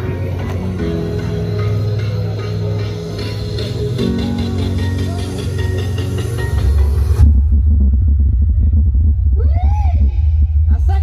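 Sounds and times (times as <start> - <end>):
loud music with deep bass: 0.0 - 11.0.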